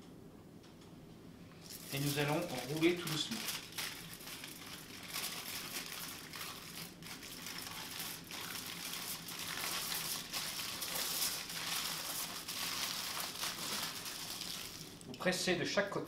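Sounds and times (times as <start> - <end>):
aluminium foil crinkling: 1.6 - 15.1.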